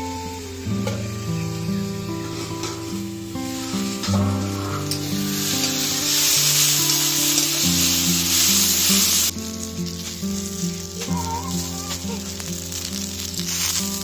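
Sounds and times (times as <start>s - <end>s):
background music with held notes: 0.0s - 14.0s
food sizzling in hot oil: 0.0s - 14.0s.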